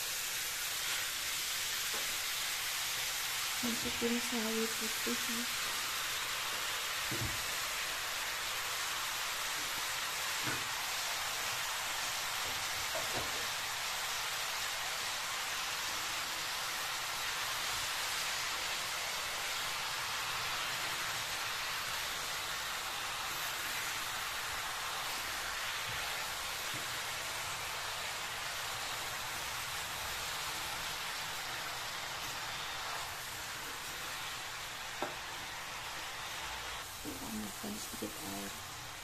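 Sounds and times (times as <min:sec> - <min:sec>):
vegetables sizzling in oil: 0:00.0 - 0:39.0.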